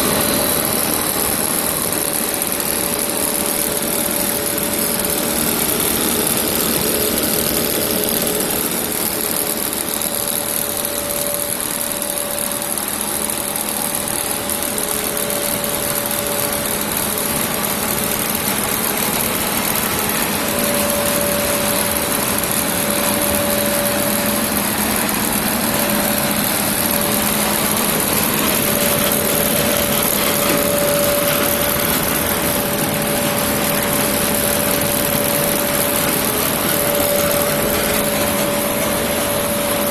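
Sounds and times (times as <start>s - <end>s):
industrial machine hum: 0.0s - 39.9s
mid-pitched machine whine: 0.0s - 39.9s.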